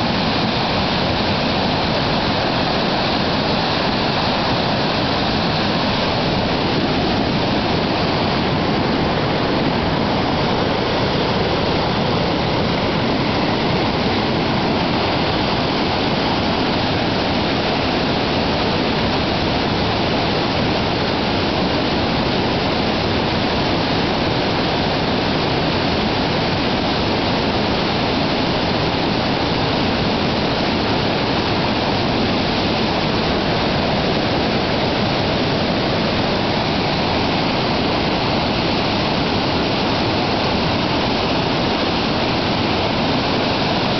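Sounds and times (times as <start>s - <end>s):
white-water rapids rushing: 0.0s - 43.9s.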